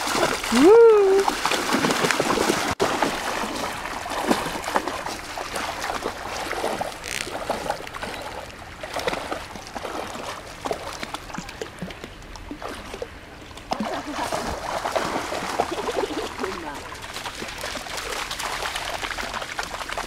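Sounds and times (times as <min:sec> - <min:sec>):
water splashing around wading legs: 0:00.0 - 0:20.0.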